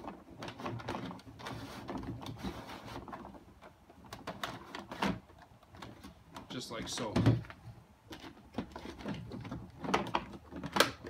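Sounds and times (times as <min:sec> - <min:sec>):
plastic clicks and scraping: 0:00.0 - 0:11.0.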